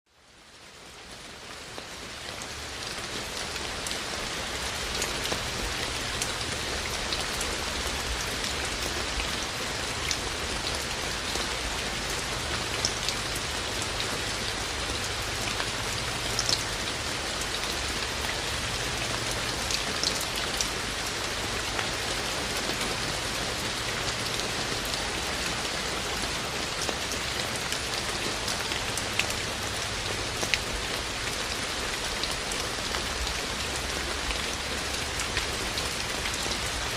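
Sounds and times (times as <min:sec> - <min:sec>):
steady rain hiss: 0:00.1 - 0:36.9.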